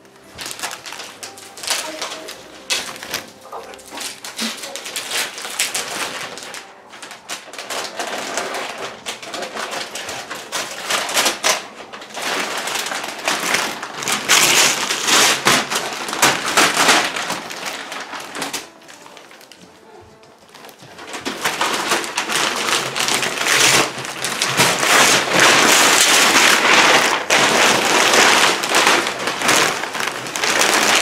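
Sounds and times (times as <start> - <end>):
wrapping paper crinkling and tearing: 0.0 - 31.0.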